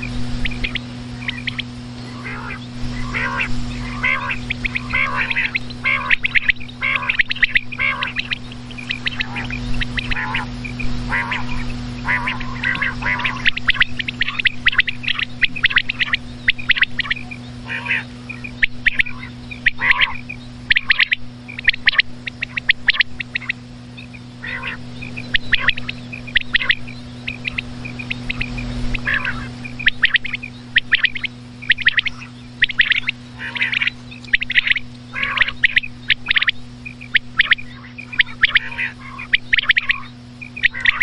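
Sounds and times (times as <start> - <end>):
low electrical hum: 0.0 - 41.0
quail calling: 0.0 - 41.0.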